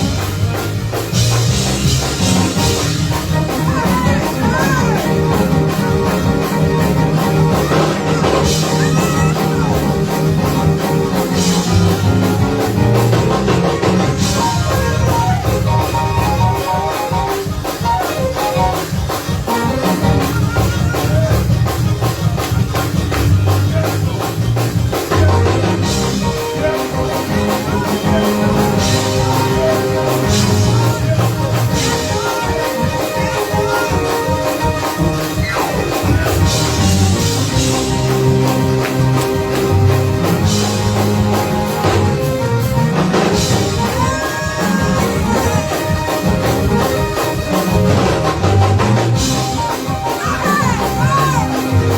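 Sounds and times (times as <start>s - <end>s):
heavy bass line: 0.0s - 16.8s, 19.6s - 33.7s, 34.7s - 51.9s
drum kit: 0.0s - 51.9s
sustained organ tones: 0.0s - 51.9s.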